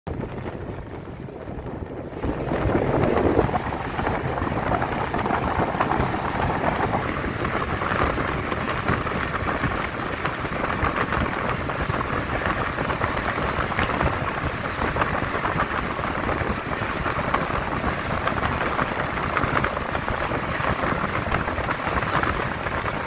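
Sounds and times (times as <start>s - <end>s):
water rushing past boat: 0.1s - 23.0s
wind buffeting microphone: 0.1s - 23.0s.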